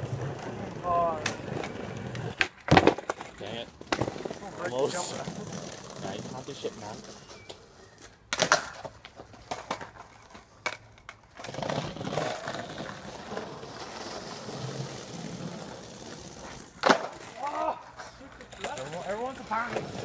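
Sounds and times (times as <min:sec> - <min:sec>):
skateboard clacks: 0:00.0 - 0:07.3, 0:08.3 - 0:20.0
skateboard wheels rolling: 0:00.0 - 0:20.0.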